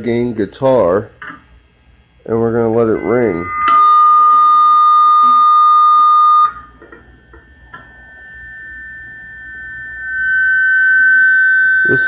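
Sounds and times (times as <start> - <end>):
electric guitar feedback tone: 2.2 - 12.0.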